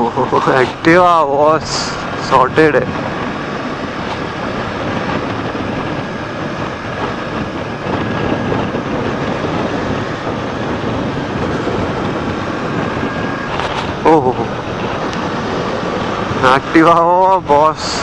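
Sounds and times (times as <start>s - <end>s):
motorcycle engine: 0.0s - 18.0s
wind rushing over microphone: 0.0s - 18.0s.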